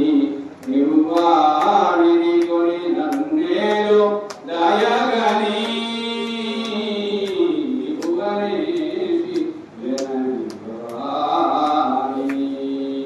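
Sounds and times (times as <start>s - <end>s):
person chanting a mantra: 0.0s - 13.0s.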